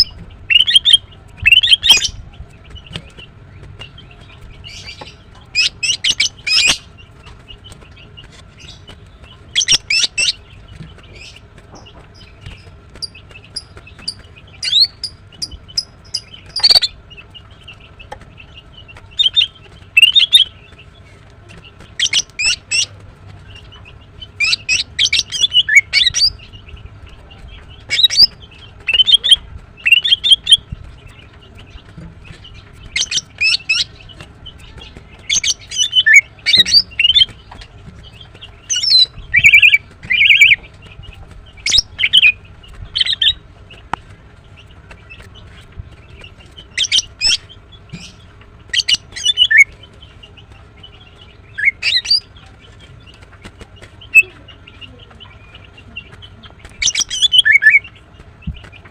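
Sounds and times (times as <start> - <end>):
bird sharp high chirps: 0.0 - 20.8, 21.8 - 26.8, 27.6 - 40.9, 44.9 - 52.5, 54.0 - 58.8.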